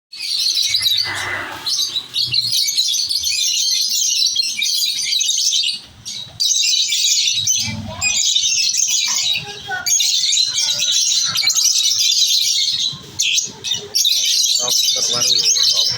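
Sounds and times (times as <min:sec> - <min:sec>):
lovebirds chattering: 0:00.2 - 0:15.9.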